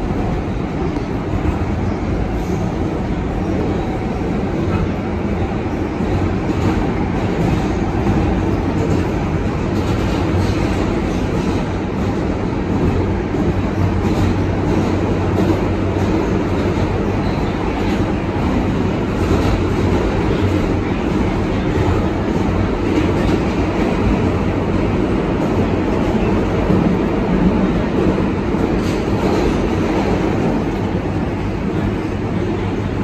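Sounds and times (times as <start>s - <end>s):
subway car wheels rumbling on rail: 0.0s - 33.0s.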